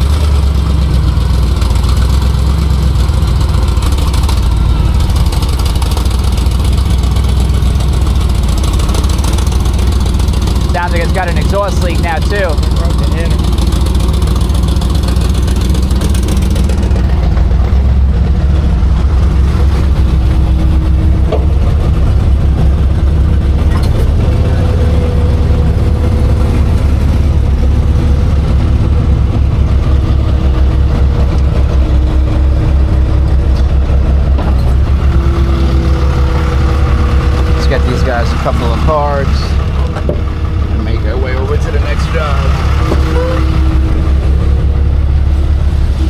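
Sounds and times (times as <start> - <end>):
truck engine idling loudly: 0.0 - 46.0.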